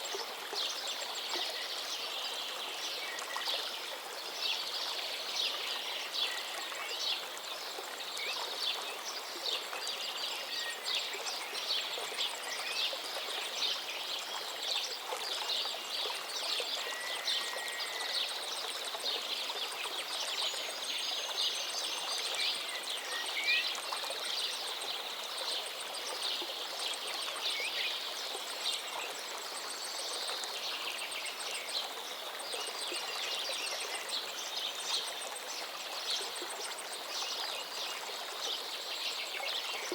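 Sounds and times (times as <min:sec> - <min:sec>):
flowing river: 0:00.0 - 0:39.9.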